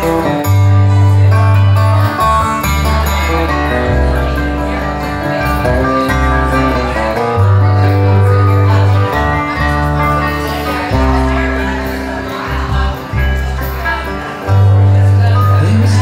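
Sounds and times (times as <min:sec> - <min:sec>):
guitar: 0:00.0 - 0:16.0
sustained bass notes: 0:00.0 - 0:16.0.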